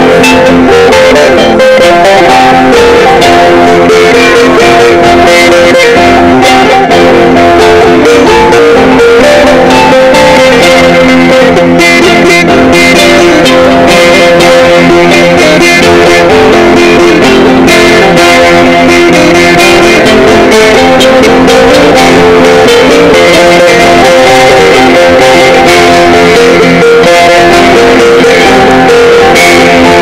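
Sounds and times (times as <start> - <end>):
plucked lute notes: 0.0 - 30.0.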